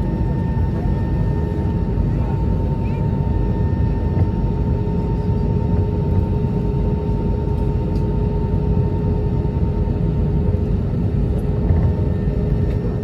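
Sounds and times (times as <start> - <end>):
constant hum: 0.0 - 13.0
jet cabin rumble: 0.0 - 13.0.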